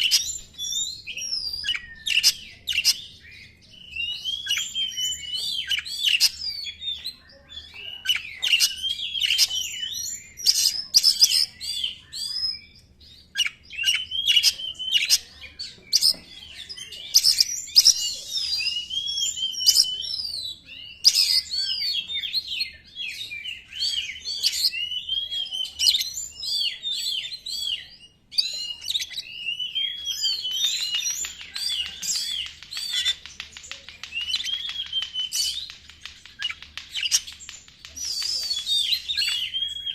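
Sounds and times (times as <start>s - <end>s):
songbird singing varied whistles: 0.0s - 39.9s.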